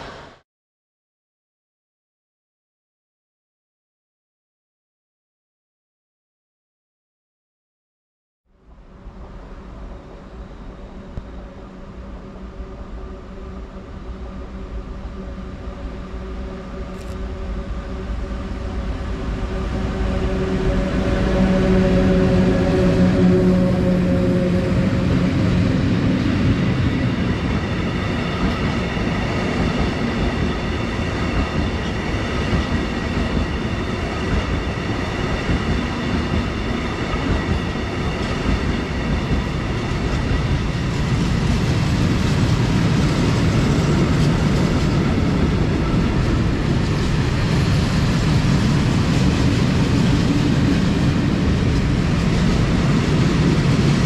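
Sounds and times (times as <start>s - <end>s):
train rolling noise: 0.0s - 0.4s, 8.6s - 54.0s.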